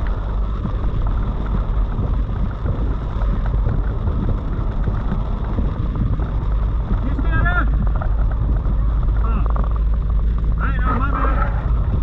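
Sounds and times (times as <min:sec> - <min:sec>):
heavy rain on a car: 0:00.0 - 0:12.0
road and engine rumble: 0:00.0 - 0:12.0
wind buffeting microphone: 0:00.0 - 0:12.0.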